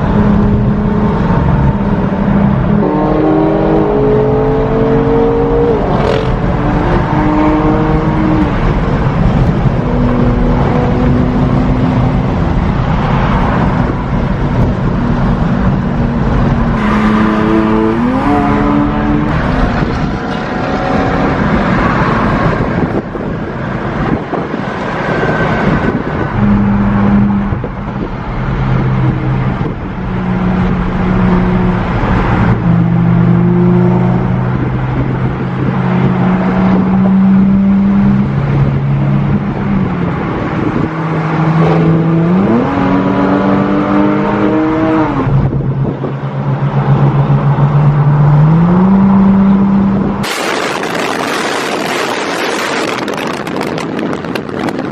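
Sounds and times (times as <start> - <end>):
car engines accelerating: 0.0 - 54.9.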